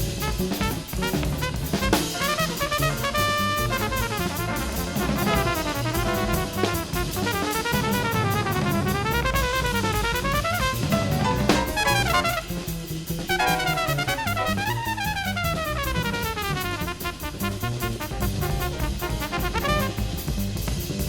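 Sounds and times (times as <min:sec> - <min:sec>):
drums and cymbals: 0:00.0 - 0:21.0
jazz quartet playing: 0:00.0 - 0:21.0
walking bass line: 0:03.0 - 0:20.2.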